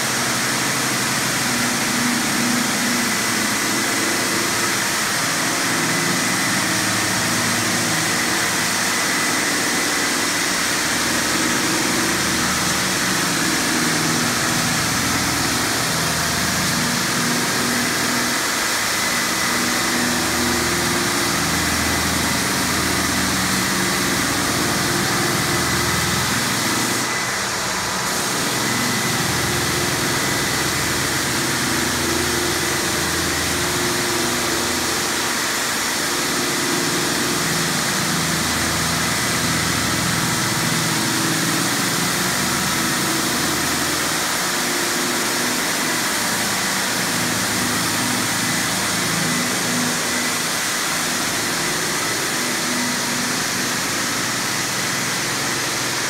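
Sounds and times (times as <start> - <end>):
floor sander: 0.0 - 56.0.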